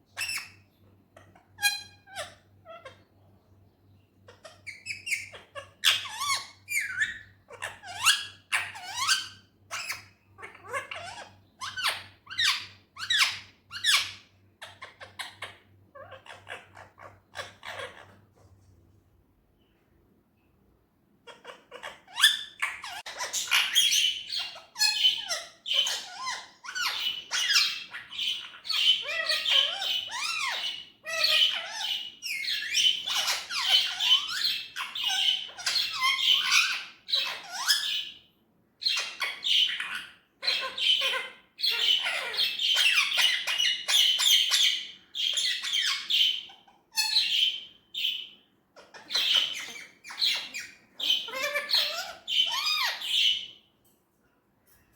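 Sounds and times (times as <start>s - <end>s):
parrot chattering and squawking: 0.1s - 3.2s, 4.3s - 18.4s, 21.2s - 53.7s.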